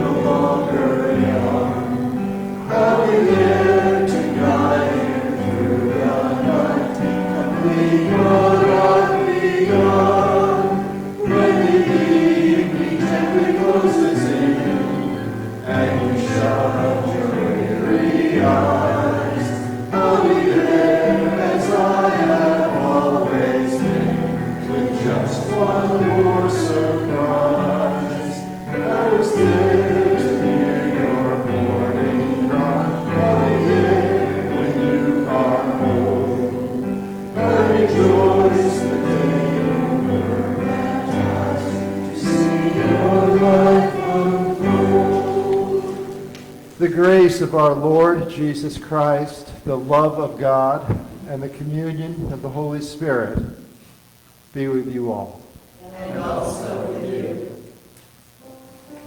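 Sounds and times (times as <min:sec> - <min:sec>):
piano accompaniment: 0:00.0 - 0:52.5
congregation singing a hymn: 0:00.0 - 0:53.8, 0:54.6 - 0:59.0.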